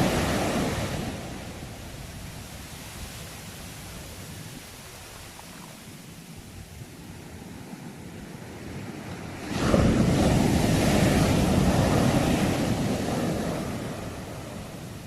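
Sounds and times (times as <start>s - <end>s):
surf hiss: 0.0s - 15.0s
wave breaking and washing in: 0.0s - 15.0s.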